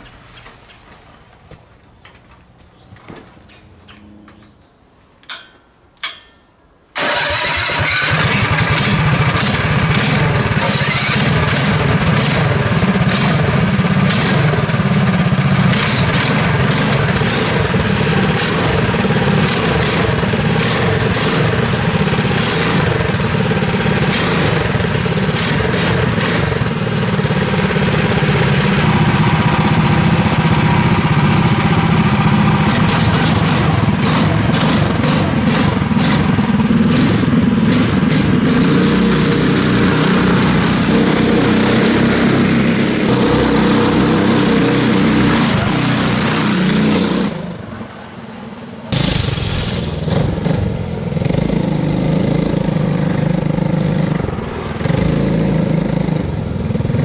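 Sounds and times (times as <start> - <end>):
go-kart engines idling: 7.0 - 57.0.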